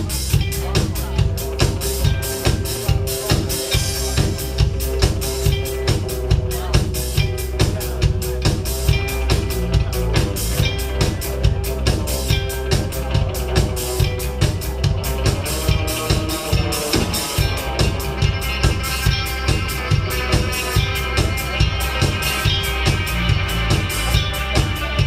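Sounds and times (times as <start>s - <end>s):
drum kit steady beat: 0.0s - 25.0s.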